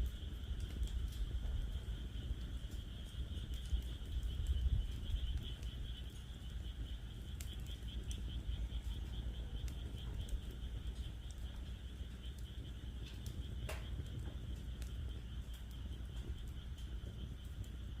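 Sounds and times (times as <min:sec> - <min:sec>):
wood fire crackling and popping: 0:00.0 - 0:18.0
frogs calling: 0:00.1 - 0:18.0.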